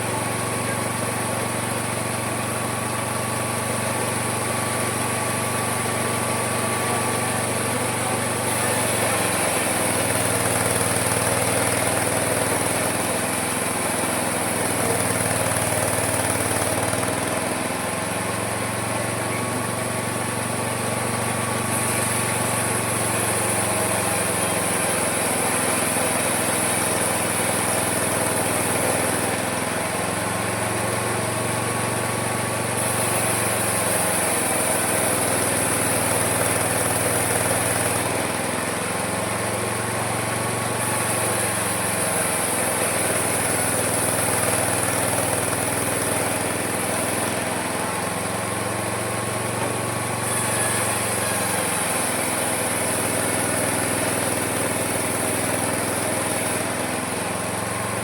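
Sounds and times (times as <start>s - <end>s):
small sawmill engine running: 0.0s - 58.0s.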